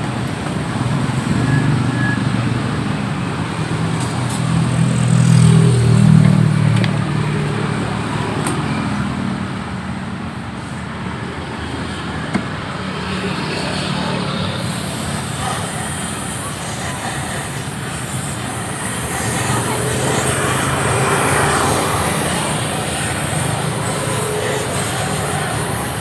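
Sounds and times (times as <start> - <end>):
road traffic noise: 0.0 - 26.0
vehicle engine passing: 0.9 - 9.7, 13.0 - 26.0.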